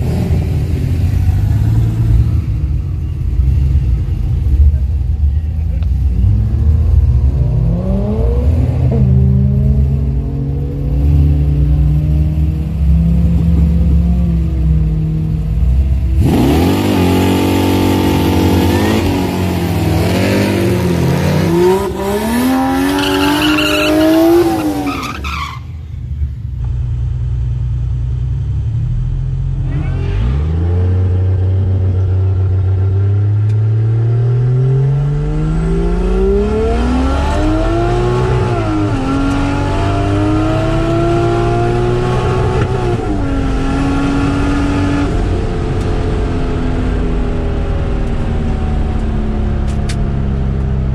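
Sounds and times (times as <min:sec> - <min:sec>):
car engine revving: 0:00.0 - 0:25.7, 0:28.6 - 0:50.9
loud tyre noise: 0:00.0 - 0:50.9.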